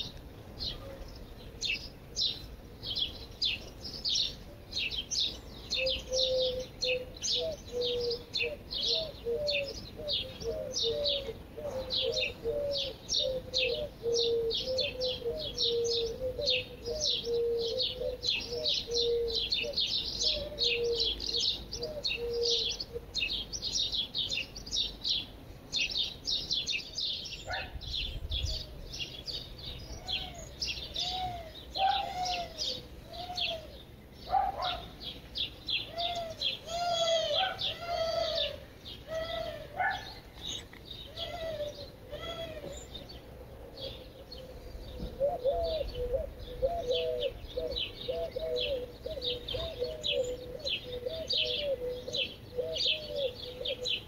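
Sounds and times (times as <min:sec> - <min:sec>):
low arching bird calls: 0:00.0 - 0:54.0
songbirds chirping: 0:00.0 - 0:54.0.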